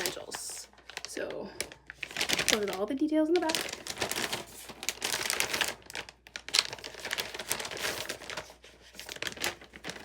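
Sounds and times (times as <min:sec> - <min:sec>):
paper and cardboard crinkling: 0:00.0 - 0:10.0.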